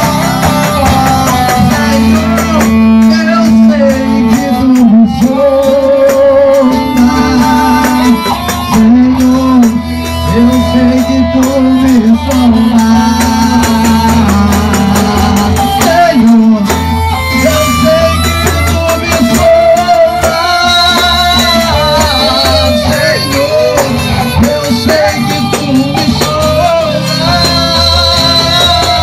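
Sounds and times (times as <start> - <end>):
live band playing worship song: 0.0 - 29.0
steady bass line: 0.0 - 29.0.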